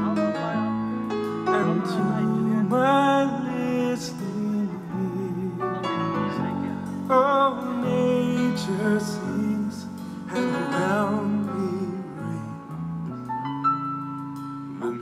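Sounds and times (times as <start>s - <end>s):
long held melody notes: 0.0s - 15.0s
steady lower accompaniment: 0.0s - 15.0s.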